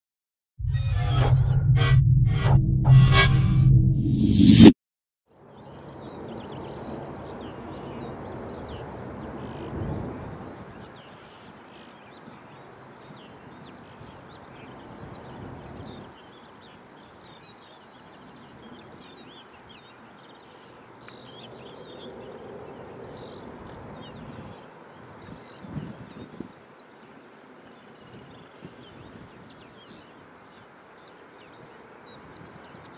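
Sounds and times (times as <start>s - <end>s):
songbirds chirping and trilling: 5.4s - 32.9s.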